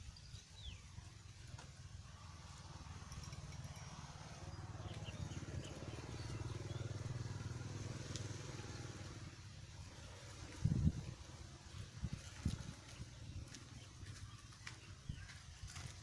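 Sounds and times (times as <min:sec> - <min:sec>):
small engine passing: 0:01.6 - 0:16.0.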